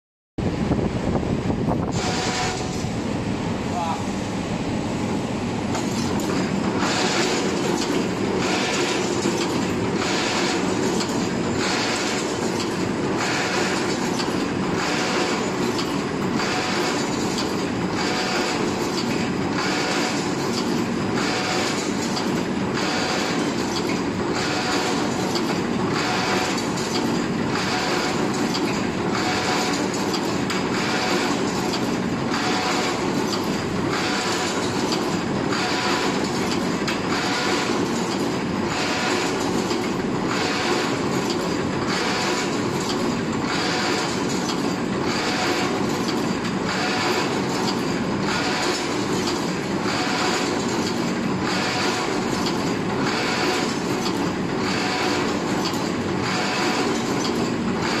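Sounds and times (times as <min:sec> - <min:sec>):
mechanical hum: 0:00.4 - 0:58.0
machine rhythmic clatter: 0:01.7 - 0:03.1, 0:05.5 - 0:58.0.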